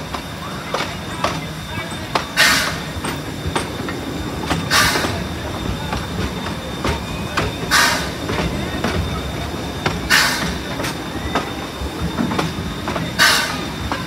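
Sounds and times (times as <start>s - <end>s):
steam hissing bursts: 0.0s - 14.0s
train wheels rumbling and clicking: 0.0s - 14.0s.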